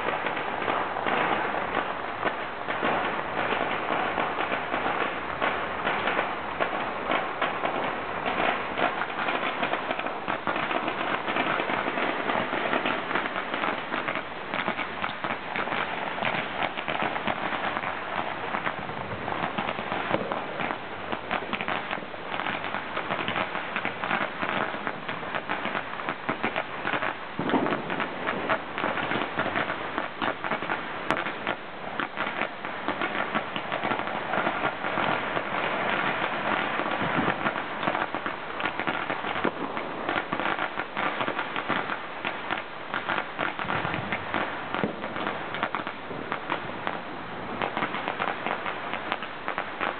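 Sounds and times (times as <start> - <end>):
firecrackers crackling: 0.0 - 49.9.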